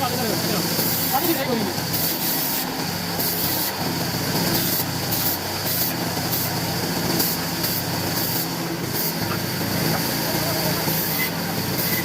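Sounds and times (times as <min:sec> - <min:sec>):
electric wood-cutting machine: 0:00.0 - 0:12.0.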